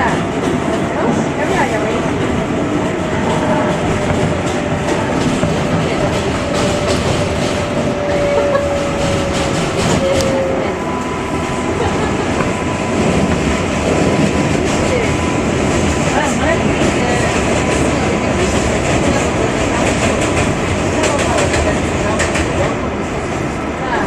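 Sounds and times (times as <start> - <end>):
train rumble with wheel clatter: 0.0 - 24.0.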